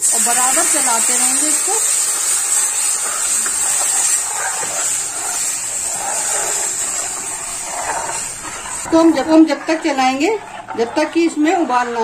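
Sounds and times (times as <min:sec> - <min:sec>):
hot oil sizzling: 0:00.0 - 0:12.0
metal ladle stirring: 0:00.2 - 0:12.0.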